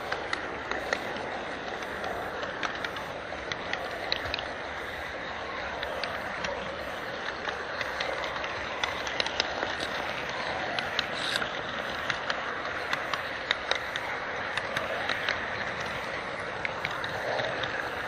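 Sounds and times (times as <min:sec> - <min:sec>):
model train rolling rattle: 0:00.0 - 0:18.0
wheels clicking on rails: 0:00.0 - 0:18.0.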